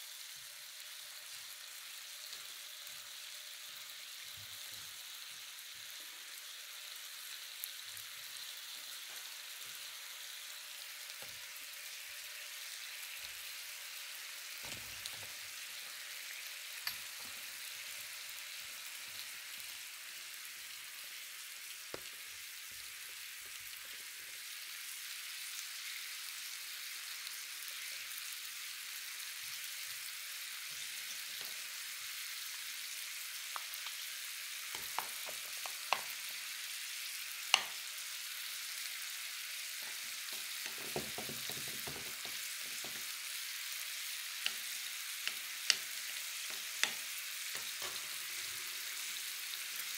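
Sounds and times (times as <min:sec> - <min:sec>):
beef and garlic sizzling: 0:00.0 - 0:49.9.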